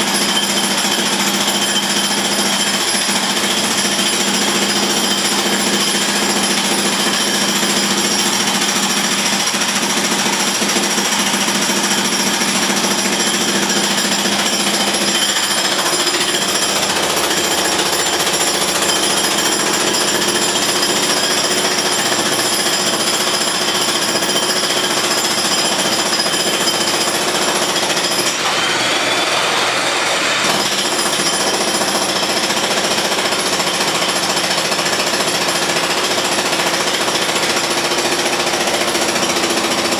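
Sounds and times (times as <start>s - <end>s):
jackhammer hammering: 0.0s - 39.9s.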